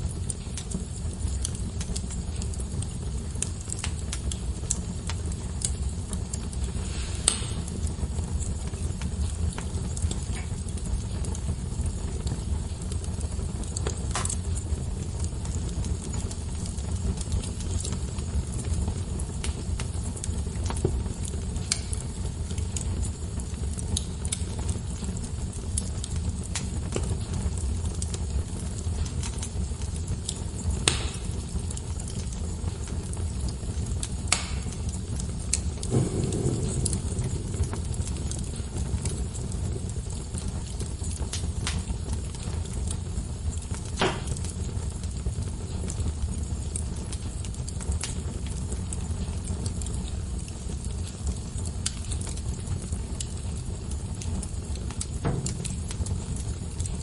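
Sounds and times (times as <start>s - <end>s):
fire popping loudly: 0.0s - 57.0s
wood fire crackling: 0.0s - 57.0s.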